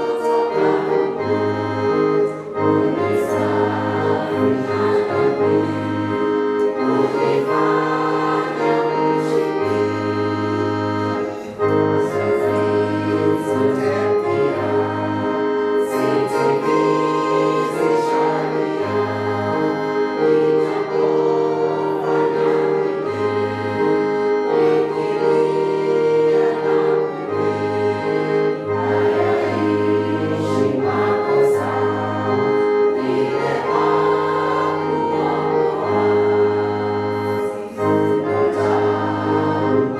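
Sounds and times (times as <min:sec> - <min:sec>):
choir singing: 0:00.0 - 0:39.9
sustained keyboard chords: 0:00.0 - 0:39.9.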